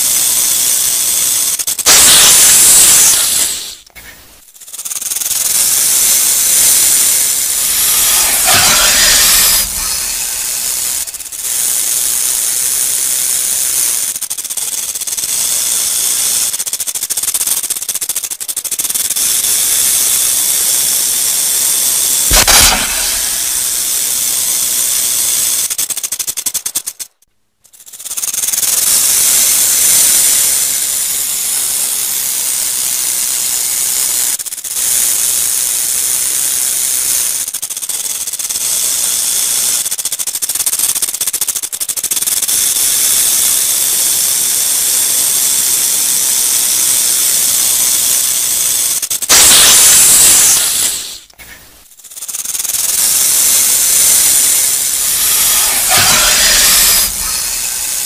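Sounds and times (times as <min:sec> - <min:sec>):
rattlesnake tail rattle buzz: 0:00.0 - 0:58.0.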